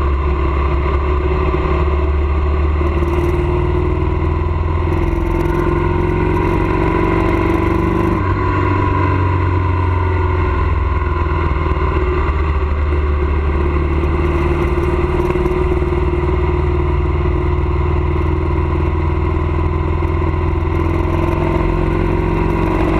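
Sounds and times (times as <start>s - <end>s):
road noise: 0.0s - 22.9s
vehicle engine running: 0.0s - 22.9s.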